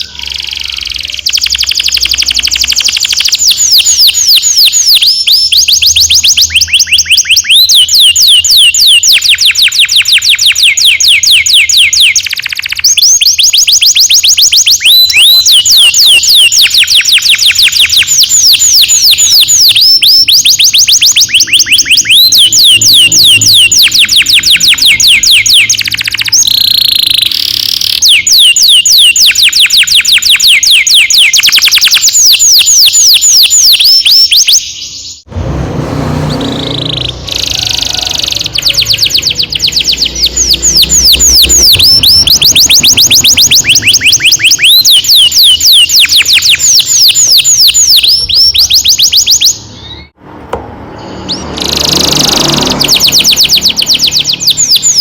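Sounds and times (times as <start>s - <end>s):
canary singing trills: 0.0s - 35.3s, 36.0s - 50.2s, 50.9s - 55.0s.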